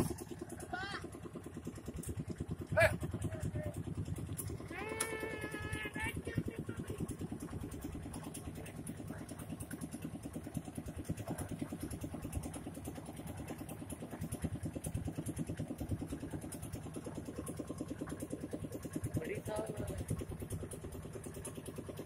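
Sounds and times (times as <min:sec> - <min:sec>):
engine running with fast pulse: 0:00.0 - 0:22.0.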